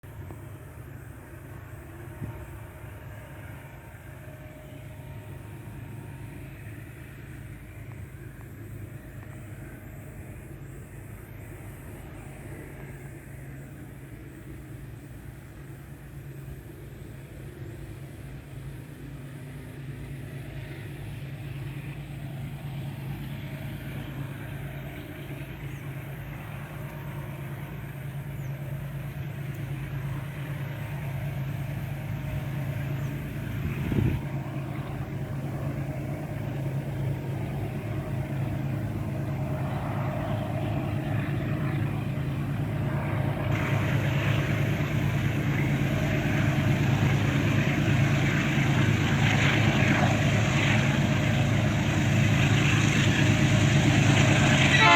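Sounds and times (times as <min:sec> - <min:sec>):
locomotive engine drone: 0:00.0 - 0:54.9.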